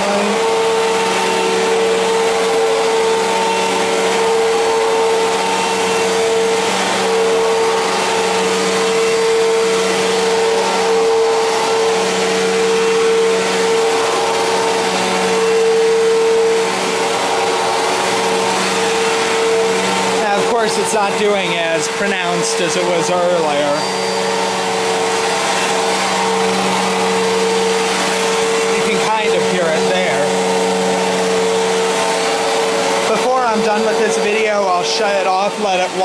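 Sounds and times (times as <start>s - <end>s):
upright vacuum cleaner running: 0.0s - 36.0s.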